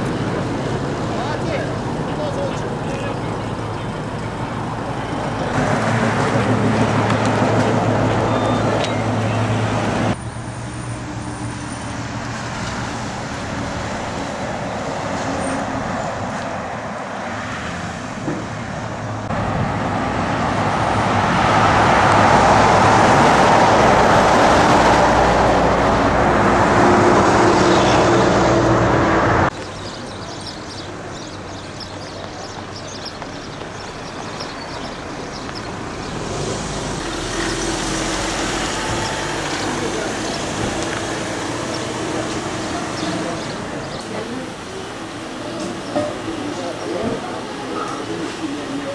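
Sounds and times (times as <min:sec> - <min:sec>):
highway traffic rumble: 0:00.0 - 0:48.9.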